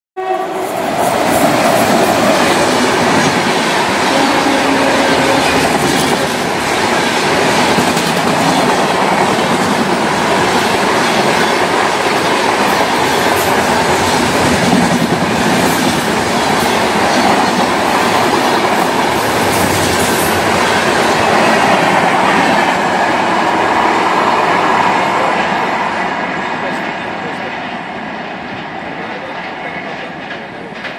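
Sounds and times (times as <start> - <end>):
train wheels rumbling on rails: 0.4 - 30.9.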